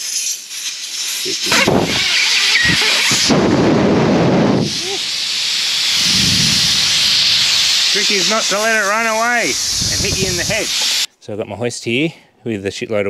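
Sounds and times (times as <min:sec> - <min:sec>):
air hissing from tyre valve: 0:00.0 - 0:11.1.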